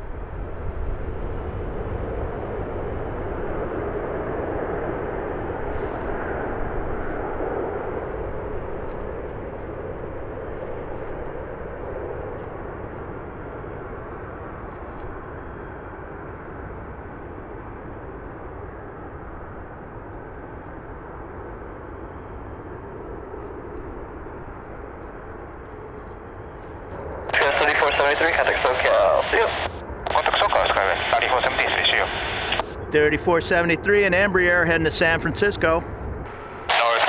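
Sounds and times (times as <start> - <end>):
jet engines rushing: 0.0 - 37.0.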